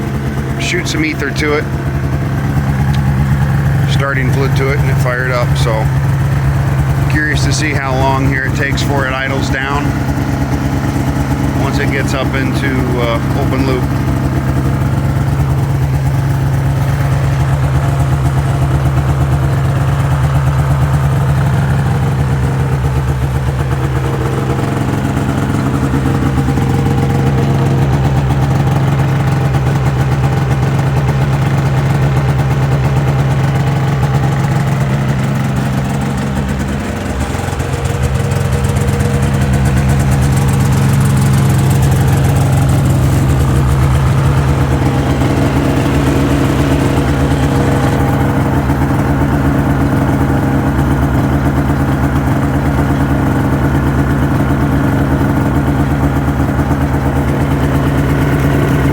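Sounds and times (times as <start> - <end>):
snowmobile engine idling: 0.0 - 58.9.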